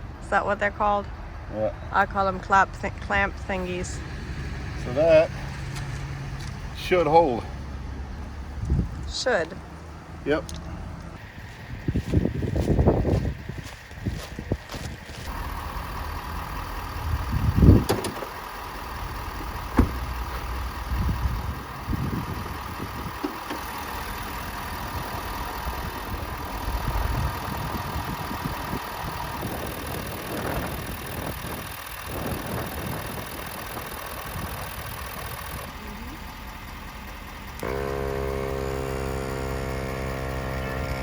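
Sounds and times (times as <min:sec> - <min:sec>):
air compressor whining: 0:02.2 - 0:41.0.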